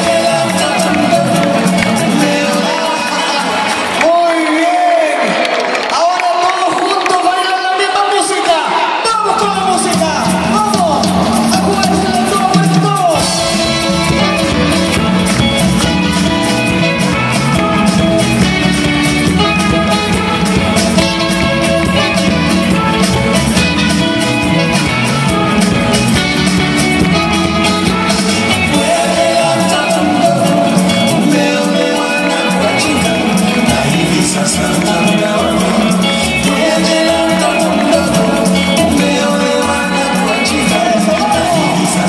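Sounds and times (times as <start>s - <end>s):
upbeat dance music: 0.0s - 42.0s.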